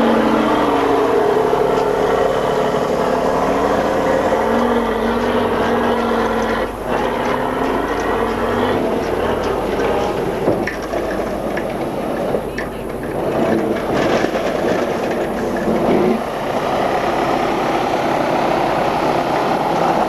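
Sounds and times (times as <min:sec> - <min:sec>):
truck diesel engine pulling hard: 0:00.0 - 0:20.0.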